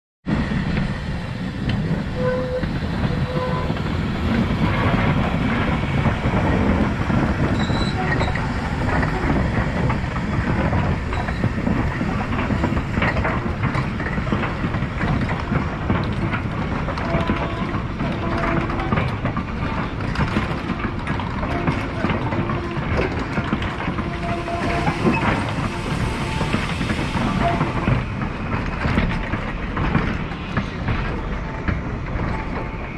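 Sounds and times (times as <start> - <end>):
steam train rumbling past: 0.3 - 32.9
wheels clicking over rail joints: 1.6 - 32.9.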